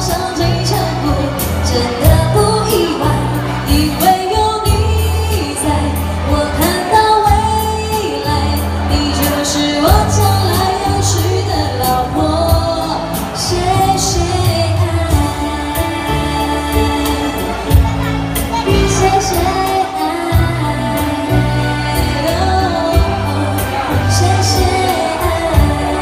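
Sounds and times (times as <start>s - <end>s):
keyboard: 0.0s - 26.0s
violin: 0.0s - 26.0s
woman singing pop song: 0.0s - 26.0s.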